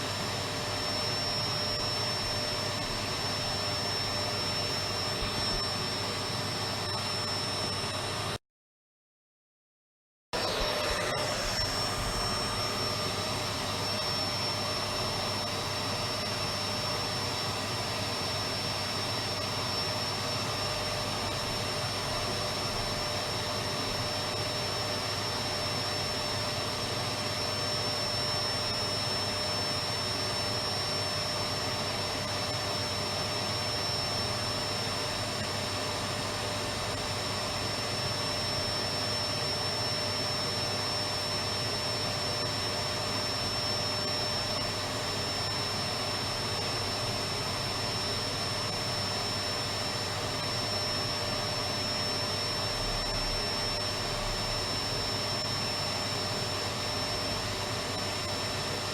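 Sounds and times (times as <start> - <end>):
vacuum cleaner running: 0.0 - 8.4, 10.4 - 58.9.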